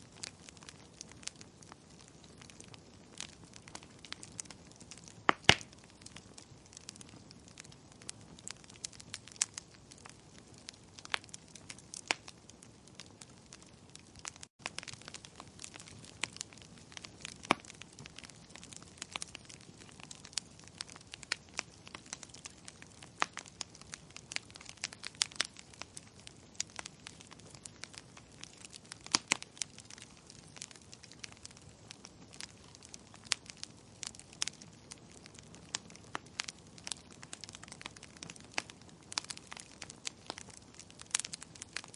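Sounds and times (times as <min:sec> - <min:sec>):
firewood crackling and popping: 0:00.0 - 0:41.9.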